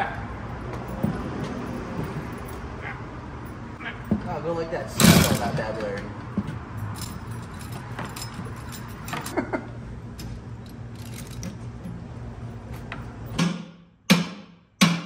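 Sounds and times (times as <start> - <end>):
shop hum: 0.0 - 15.0
metal clinks on steel frame: 0.6 - 9.6, 10.2 - 13.5.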